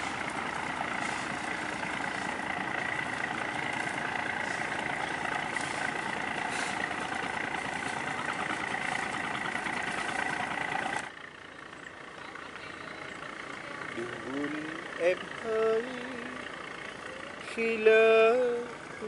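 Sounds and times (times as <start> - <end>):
diesel engine humming with whine: 0.0 - 19.0.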